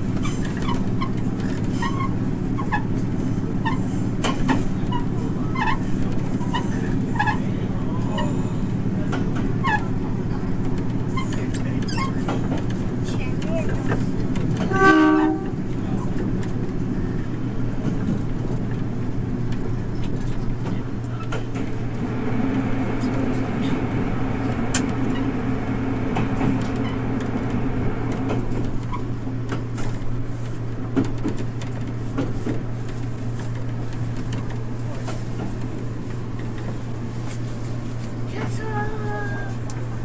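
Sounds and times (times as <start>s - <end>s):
diesel railcar engine drone: 0.0s - 40.0s
wheel-on-rail noise: 0.0s - 40.0s.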